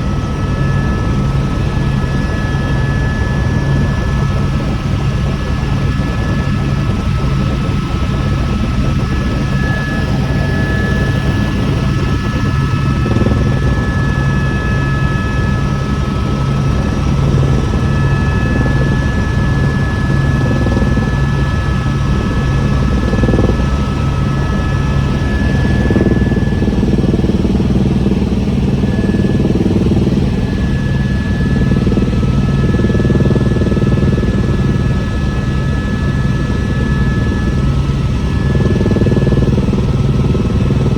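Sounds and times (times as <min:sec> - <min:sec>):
helicopter rotor drone: 0:00.0 - 0:40.9
turbine whine: 0:00.0 - 0:40.9.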